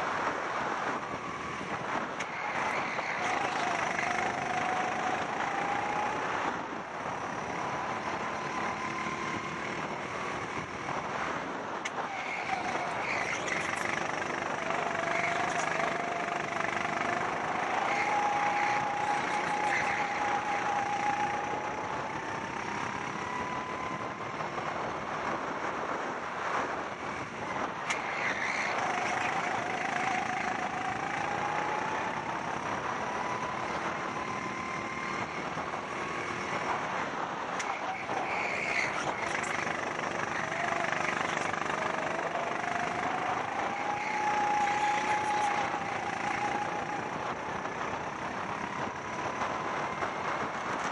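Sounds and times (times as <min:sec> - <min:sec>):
go-kart engine accelerating and slowing: 0:00.0 - 0:50.9.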